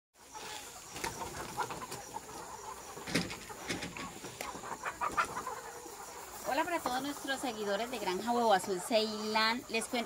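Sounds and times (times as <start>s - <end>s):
hens clucking: 0.2s - 10.0s.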